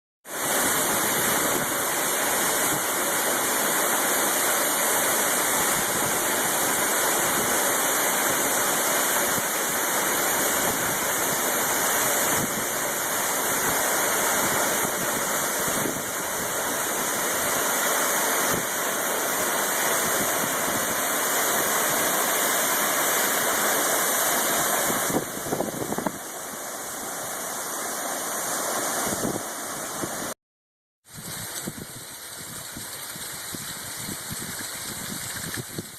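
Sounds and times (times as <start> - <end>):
waterfall rushing: 0.3 - 30.4.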